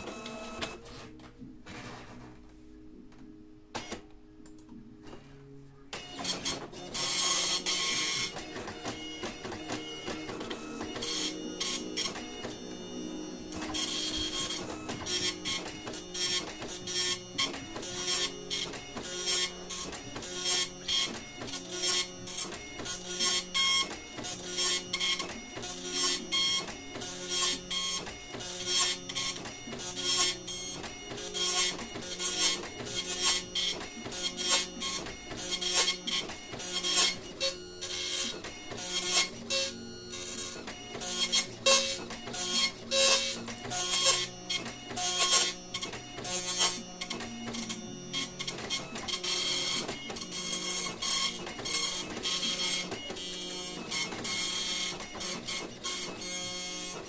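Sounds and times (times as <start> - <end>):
dot matrix printer printing: 0.0 - 2.4, 3.8 - 4.1, 5.9 - 57.0.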